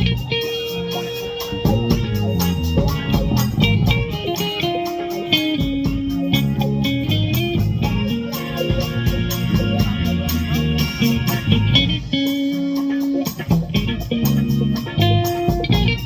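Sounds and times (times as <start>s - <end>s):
live band instrumental groove: 0.0s - 16.0s.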